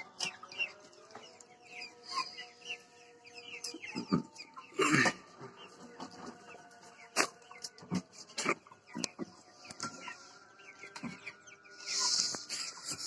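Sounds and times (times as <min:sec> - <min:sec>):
chickens clucking and peeping: 0:00.0 - 0:13.0.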